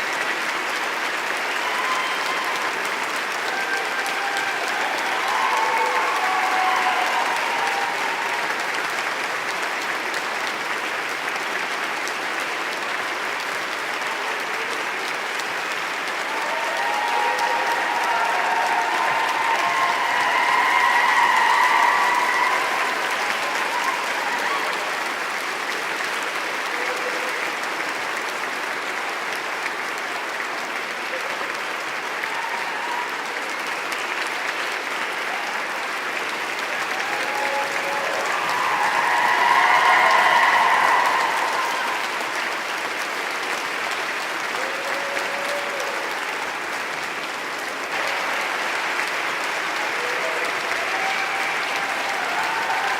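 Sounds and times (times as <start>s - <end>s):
audience clapping: 0.0s - 52.9s.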